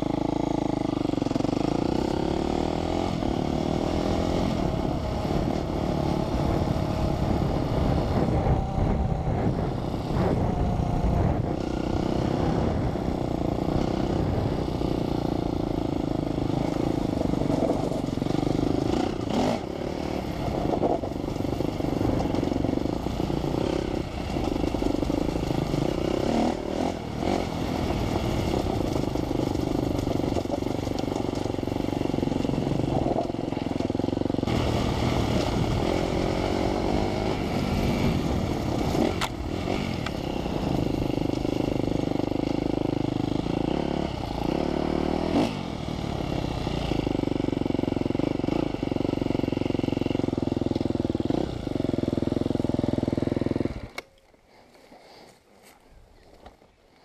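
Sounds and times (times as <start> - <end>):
dirt bike engine running: 0.0 - 55.4.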